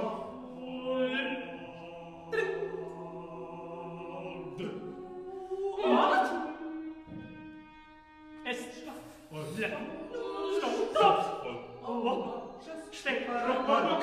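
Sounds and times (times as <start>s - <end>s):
a cappella group singing: 0.0s - 7.4s, 8.8s - 14.0s.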